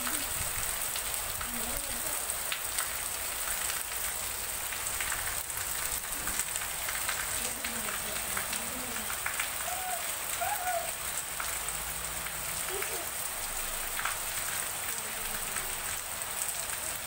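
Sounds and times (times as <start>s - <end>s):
heavy rain on concrete: 0.0s - 17.0s.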